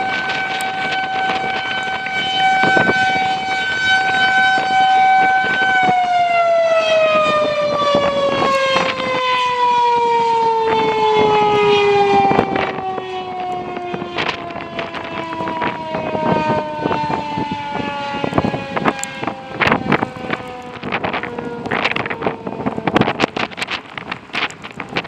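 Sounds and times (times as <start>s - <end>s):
rotating warning siren: 0.0s - 25.0s
wind buffeting microphone: 0.0s - 25.0s.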